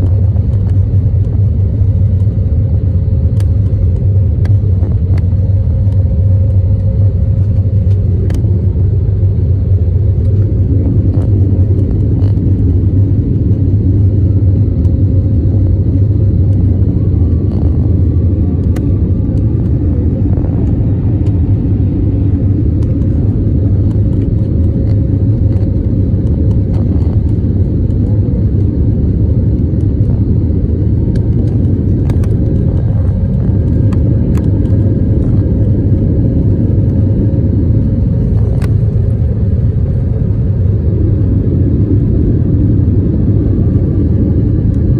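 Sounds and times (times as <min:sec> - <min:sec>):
faint steady hum: 0:00.0 - 0:44.9
jet engine rumble in cabin: 0:00.0 - 0:44.9.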